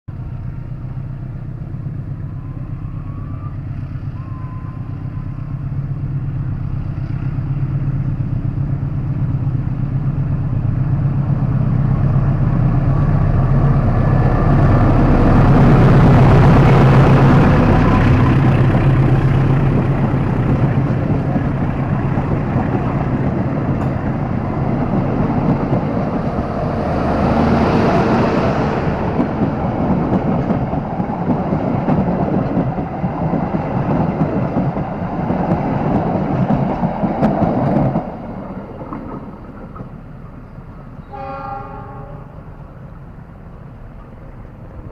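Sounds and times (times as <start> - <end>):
locomotive engine hum: 0.1 - 44.9
rail rumble: 0.1 - 44.9.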